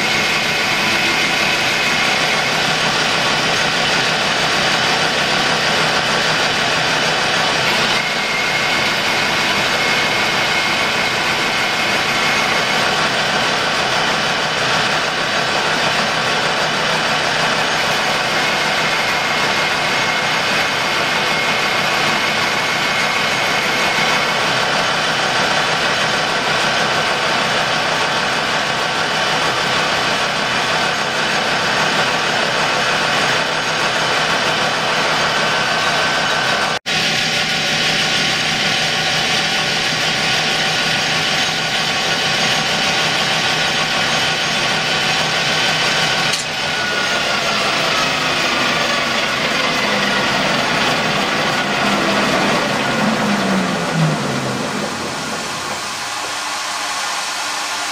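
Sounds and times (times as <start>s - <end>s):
metal lathe running: 0.0s - 57.9s.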